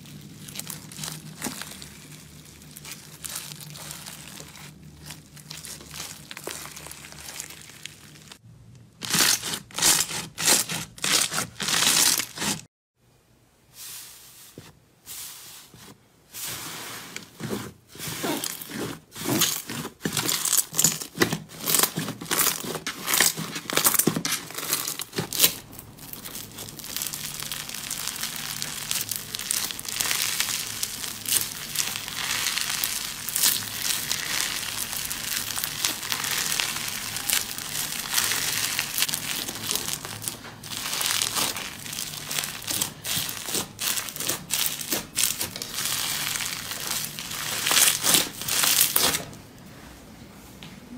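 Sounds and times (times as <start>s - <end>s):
slime crackling: 0.0s - 8.4s, 9.0s - 12.7s, 17.2s - 49.4s
slime tearing with crackles: 0.0s - 8.4s, 9.0s - 12.6s, 18.4s - 49.4s.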